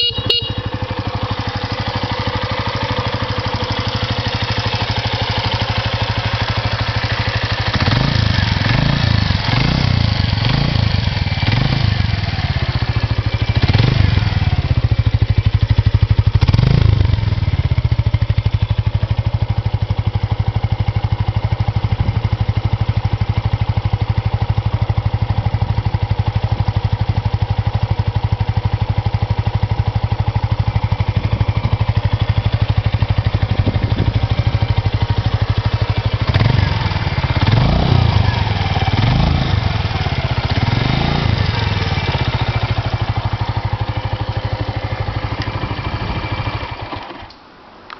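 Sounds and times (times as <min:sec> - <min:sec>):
motorcycle engine revving and idling: 0:00.0 - 0:47.4.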